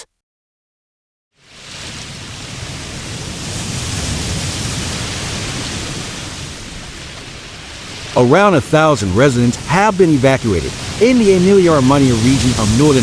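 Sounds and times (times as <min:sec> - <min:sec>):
water rushing: 0:01.4 - 0:13.0.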